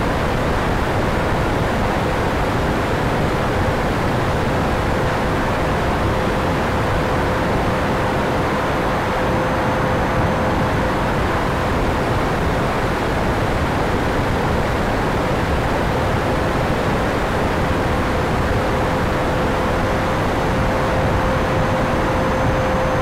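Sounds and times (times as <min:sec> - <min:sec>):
electric ducted fan whine: 0:00.0 - 0:23.0.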